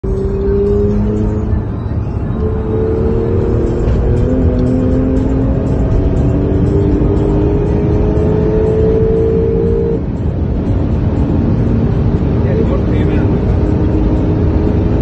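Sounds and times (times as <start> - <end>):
car engine accelerating: 0.0 - 15.0
low road rumble: 0.0 - 15.0.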